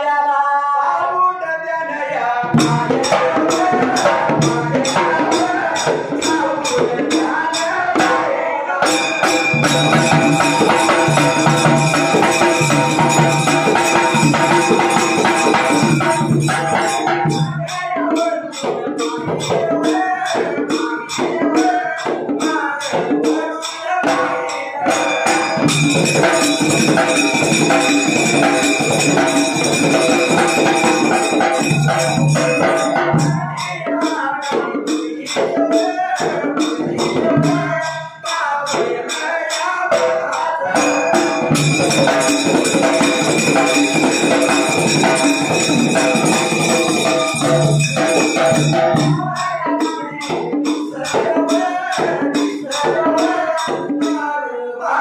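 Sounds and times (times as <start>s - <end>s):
men singing: 0.0s - 55.0s
barrel drum: 2.4s - 54.2s
hand drum: 2.5s - 39.1s, 39.9s - 54.2s
jingling hand cymbals: 2.6s - 54.3s.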